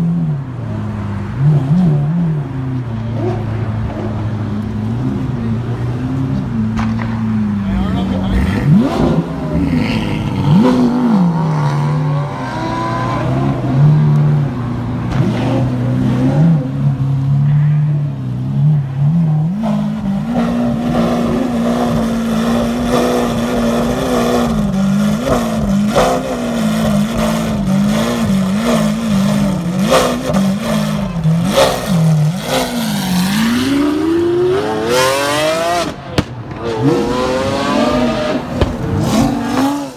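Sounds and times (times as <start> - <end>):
sports car engine idling and revving: 0.0 - 39.9.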